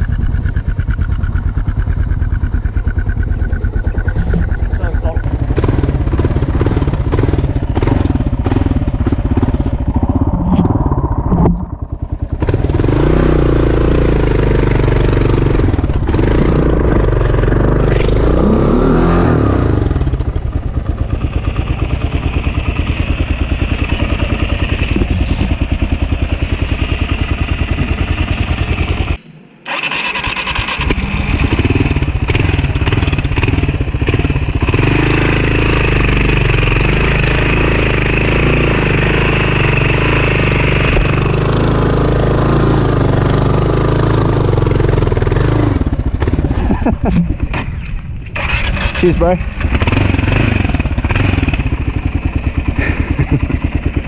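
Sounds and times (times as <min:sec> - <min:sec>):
motorcycle engine running: 0:00.0 - 0:54.0
rushing wind: 0:00.0 - 0:54.0.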